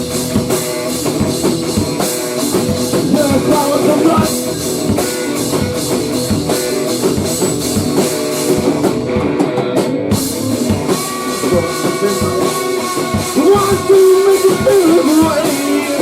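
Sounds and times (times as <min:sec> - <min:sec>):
drum kit beat: 0:00.0 - 0:16.0
electric guitar: 0:00.0 - 0:16.0.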